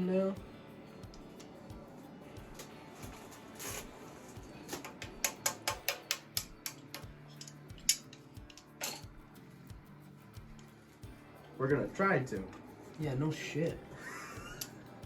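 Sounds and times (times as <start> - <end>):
light metallic taps: 0.4 - 15.0.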